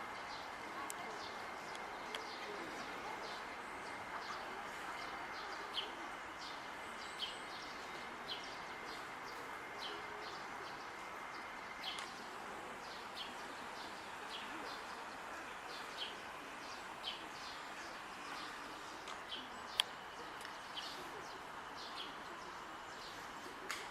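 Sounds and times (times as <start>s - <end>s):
park background hum: 0.0s - 23.9s.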